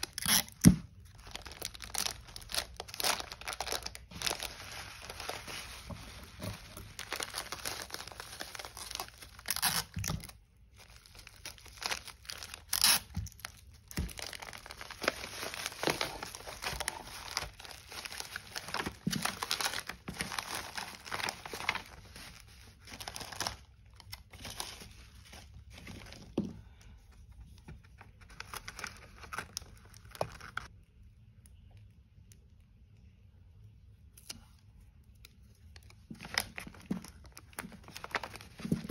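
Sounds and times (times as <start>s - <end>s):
bubble wrap crinkling: 0.0s - 30.7s, 35.1s - 38.9s
paper envelope rustling: 1.0s - 26.5s, 27.4s - 30.7s, 36.1s - 38.9s.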